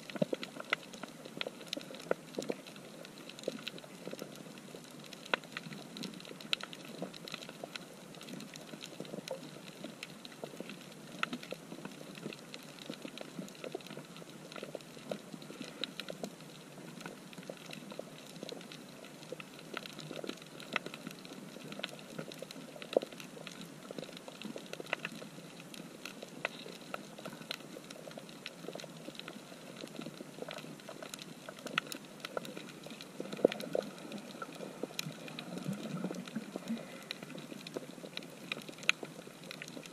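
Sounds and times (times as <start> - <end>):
crackle of small clicks underwater: 0.0 - 39.9.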